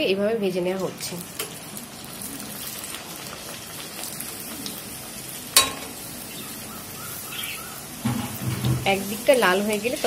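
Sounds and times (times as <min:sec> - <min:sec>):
deep-frying sizzle in oil: 0:00.0 - 0:10.0.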